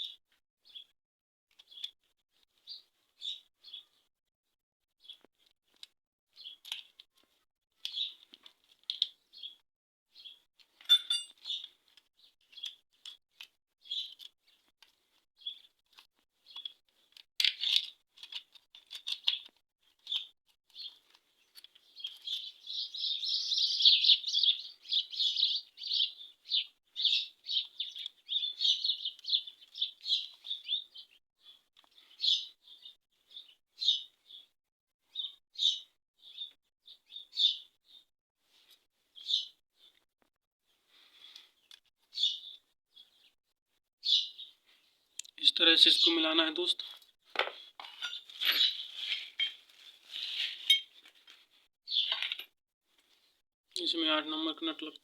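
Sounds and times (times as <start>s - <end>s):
small birds chirping: 0.0s - 0.9s, 1.5s - 4.1s, 5.0s - 40.1s, 40.7s - 43.4s, 44.0s - 49.6s, 51.4s - 52.3s.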